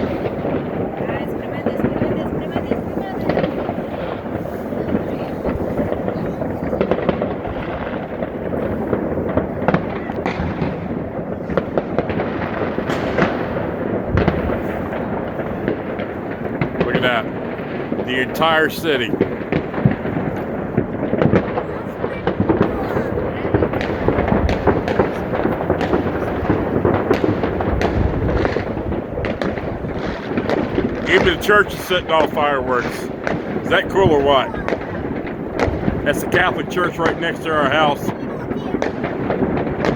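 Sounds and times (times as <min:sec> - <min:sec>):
fireworks crackling and popping: 0:00.0 - 0:39.9
loud firework bangs: 0:00.0 - 0:39.9.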